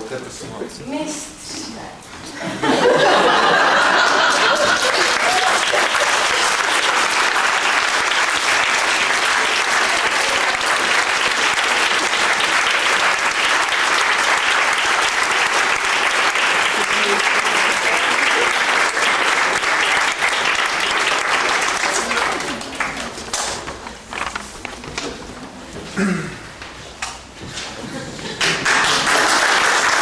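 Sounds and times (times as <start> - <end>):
audience clapping: 2.8 - 25.2, 26.6 - 30.0.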